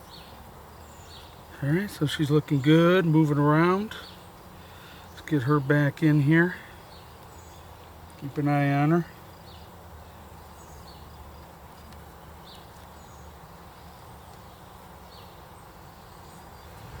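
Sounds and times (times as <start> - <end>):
bird chirping: 0.0 - 5.9, 6.6 - 7.9, 9.2 - 17.0
honey bees humming: 0.0 - 17.0.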